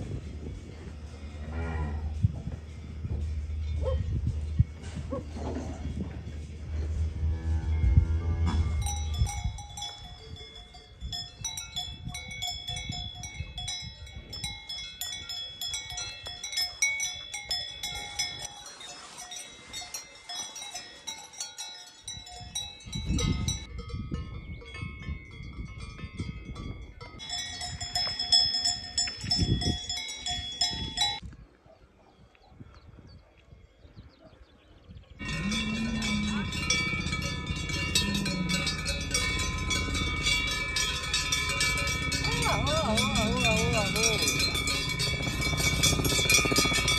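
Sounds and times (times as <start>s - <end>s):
livestock bells clanking: 2.2s - 5.0s, 7.8s - 31.2s, 35.2s - 46.9s.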